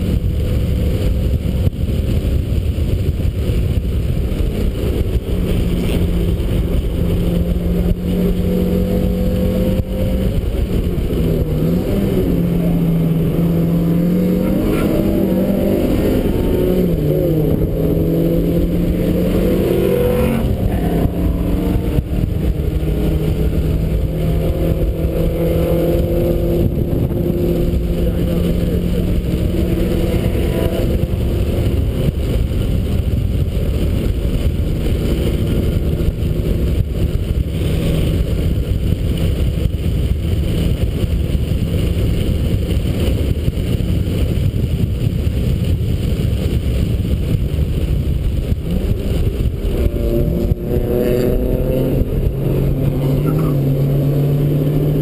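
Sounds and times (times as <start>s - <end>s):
car engine accelerating: 0.0s - 55.0s
loud rushing noise: 0.0s - 55.0s.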